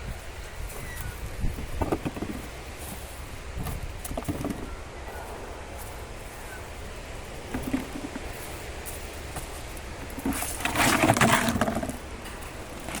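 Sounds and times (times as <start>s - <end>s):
soil rustling and scraping: 0.0s - 13.0s.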